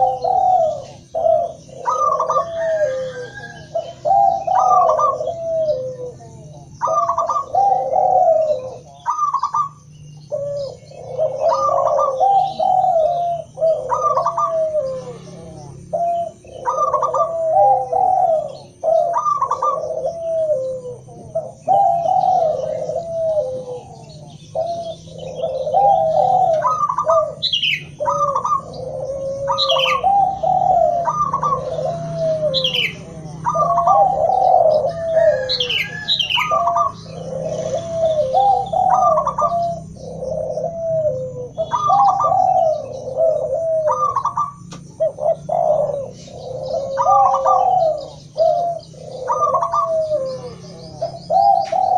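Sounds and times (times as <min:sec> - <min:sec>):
doves cooing: 0:00.0 - 0:51.9.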